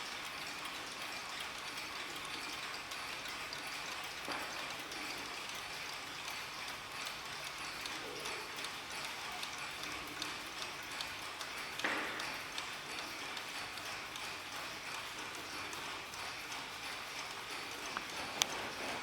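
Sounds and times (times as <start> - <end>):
mantel clocks ticking: 0.0 - 19.0.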